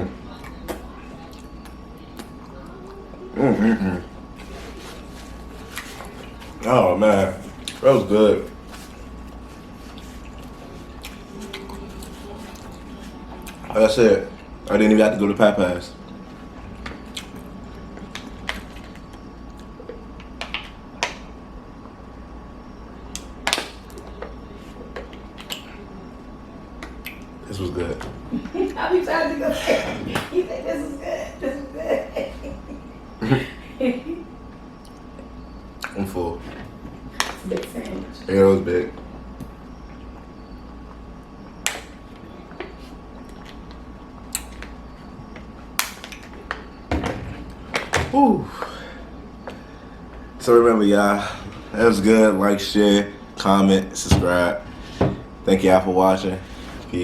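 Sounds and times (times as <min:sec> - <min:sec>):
low room hum: 0:00.0 - 0:57.0.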